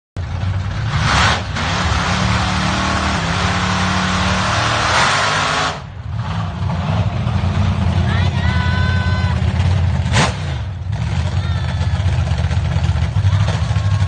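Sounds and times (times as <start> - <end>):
drag car engine at full throttle: 0.2 - 14.0.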